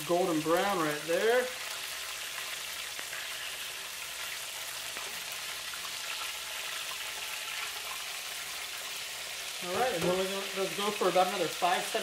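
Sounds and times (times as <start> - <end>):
chicken frying in oil sizzling: 0.0 - 12.0.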